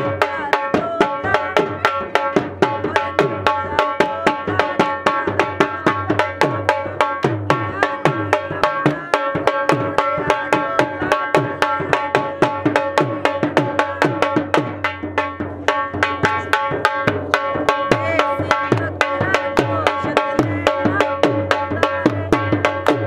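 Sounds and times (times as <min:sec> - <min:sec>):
dhol drum playing: 0:00.0 - 0:23.0.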